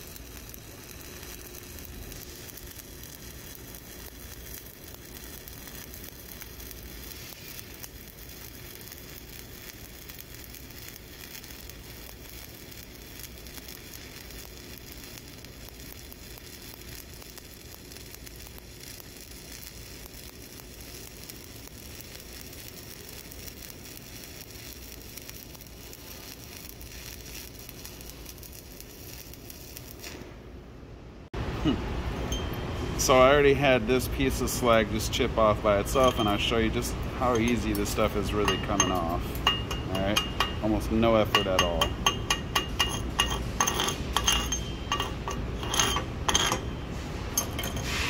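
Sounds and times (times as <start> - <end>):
welding arc burning: 0.0 - 30.8, 33.0 - 48.0.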